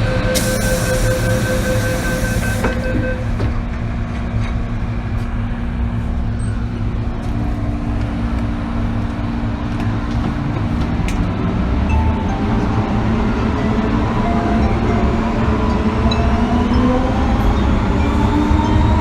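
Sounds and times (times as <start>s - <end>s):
train wheels rumbling on track: 0.0s - 18.9s.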